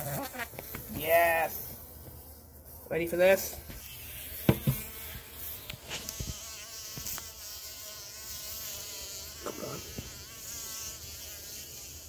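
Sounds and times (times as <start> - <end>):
bumblebee buzzing: 0.0 - 12.0.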